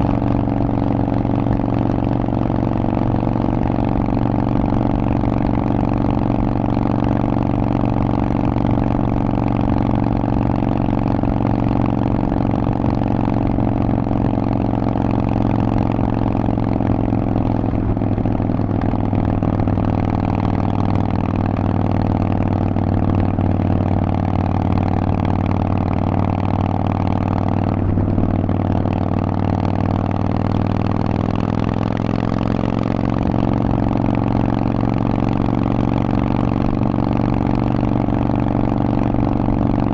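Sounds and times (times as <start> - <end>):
motorcycle v-twin engine running: 0.0 - 39.9.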